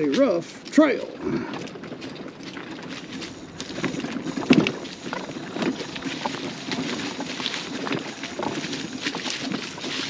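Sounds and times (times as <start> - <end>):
dry leaves crunching underfoot: 0.0 - 10.0.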